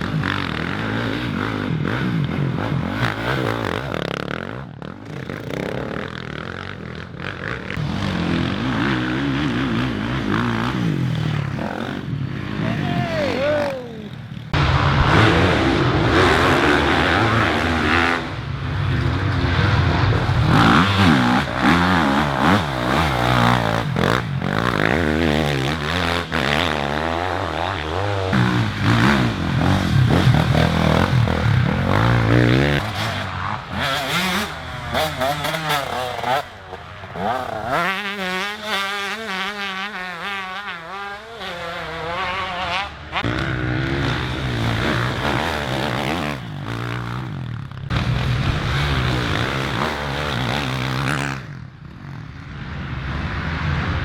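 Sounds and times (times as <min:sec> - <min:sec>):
race engines revving: 0:00.0 - 0:51.5.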